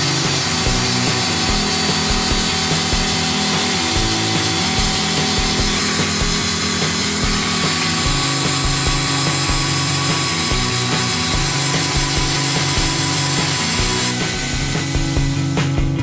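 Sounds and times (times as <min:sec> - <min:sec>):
drill running under load: 0:00.0 - 0:15.9
background music: 0:00.0 - 0:16.0.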